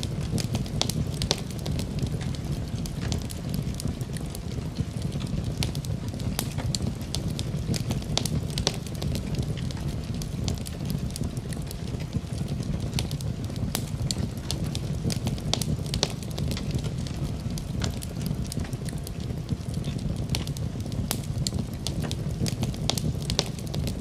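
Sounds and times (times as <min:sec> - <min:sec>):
fire popping and snapping: 0:00.0 - 0:24.0
low rumble of fire: 0:00.0 - 0:24.0
wood fire crackling: 0:00.0 - 0:24.0.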